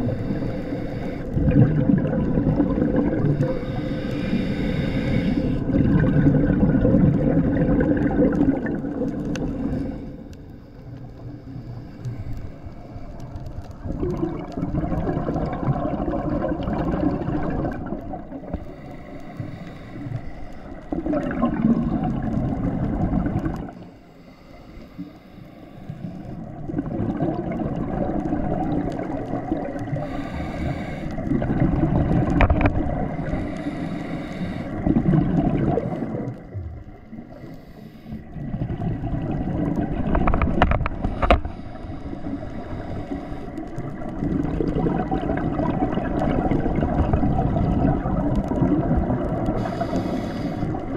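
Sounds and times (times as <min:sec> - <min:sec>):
underwater bubbles gurgling: 0:00.0 - 0:50.9.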